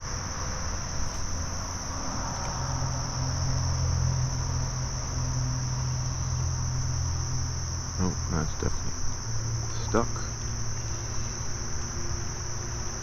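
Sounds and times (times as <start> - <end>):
insects singing: 0.0 - 13.0
low steady rumble: 0.0 - 13.0.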